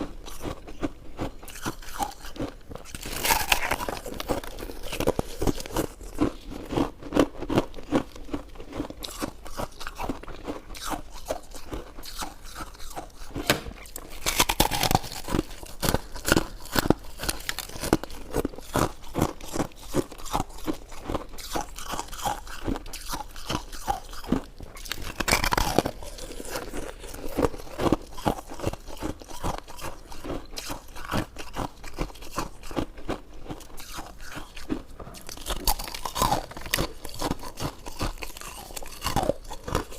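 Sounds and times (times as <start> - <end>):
chewing soft sweets: 0.0 - 39.9.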